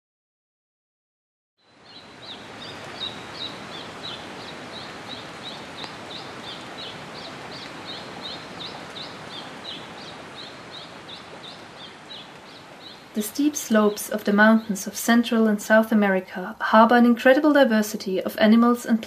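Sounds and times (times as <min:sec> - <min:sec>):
steady forest hiss: 0:01.6 - 0:19.0.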